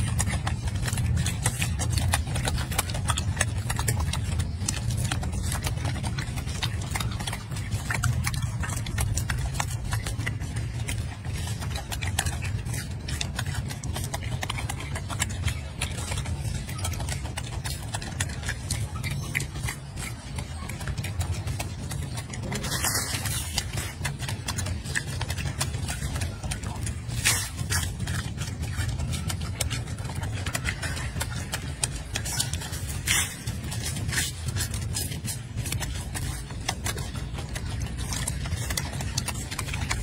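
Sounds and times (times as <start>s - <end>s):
monkey chewing wet smacks: 0.0s - 40.0s
steady low hum: 0.0s - 40.0s.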